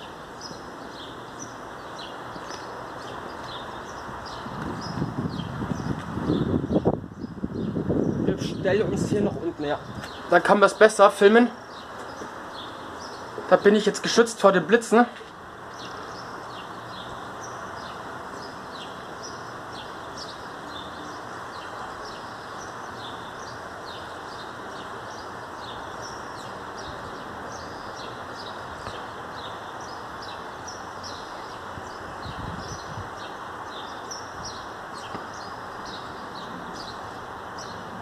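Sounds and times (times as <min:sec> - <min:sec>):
rushing background noise: 0:00.0 - 0:38.0
small birds chirping: 0:00.0 - 0:38.0.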